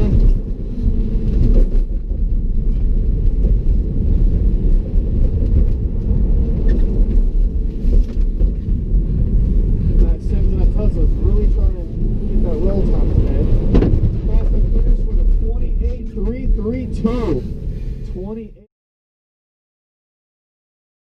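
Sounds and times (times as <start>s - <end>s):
moving car rumble: 0.0s - 18.7s.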